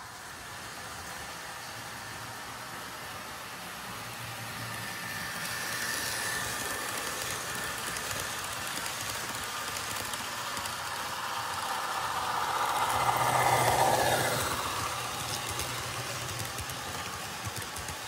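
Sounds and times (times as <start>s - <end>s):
model train wheels rolling on track: 0.0s - 18.0s.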